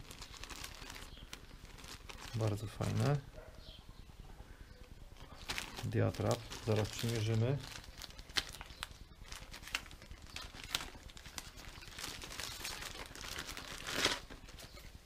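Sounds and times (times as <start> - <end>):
plastic bag crinkling: 0.0 - 3.3, 5.1 - 14.8.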